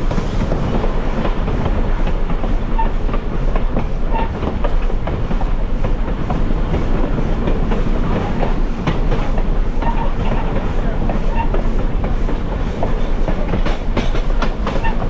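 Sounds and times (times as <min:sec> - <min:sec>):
rail joint clicks and knocks: 0:00.0 - 0:15.0
train wheels rumbling: 0:00.0 - 0:15.0.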